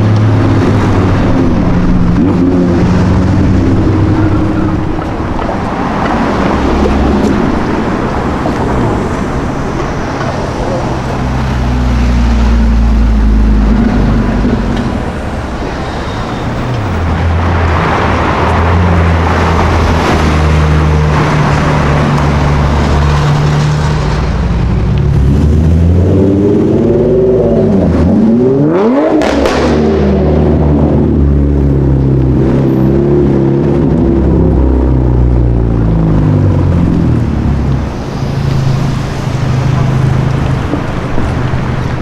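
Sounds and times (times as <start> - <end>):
car engines in traffic: 0.0 - 42.0.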